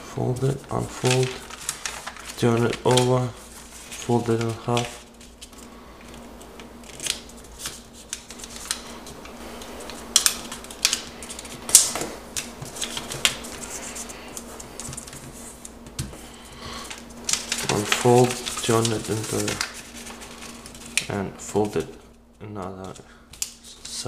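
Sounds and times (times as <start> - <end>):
paper rustling and crackling: 0.0 - 22.0
faint steady hum: 0.0 - 24.0.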